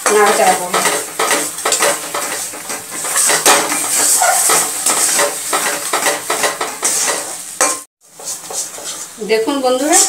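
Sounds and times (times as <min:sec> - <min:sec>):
metal spatula scraping a pan: 0:00.0 - 0:10.0
paste sizzling in oil: 0:00.0 - 0:10.0.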